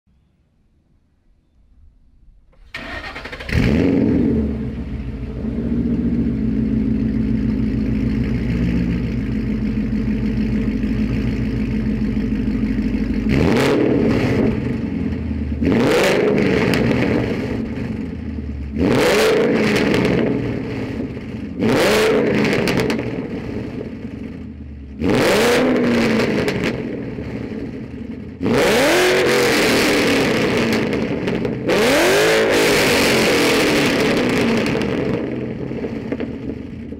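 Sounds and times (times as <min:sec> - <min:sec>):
car engine starting and revving: 0:02.5 - 0:36.9.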